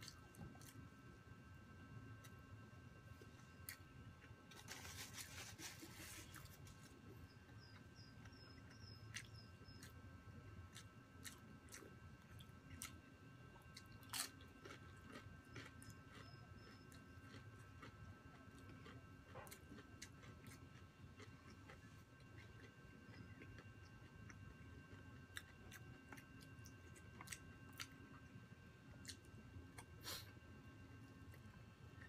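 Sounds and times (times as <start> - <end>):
person chewing crunchy food: 3.1 - 30.3.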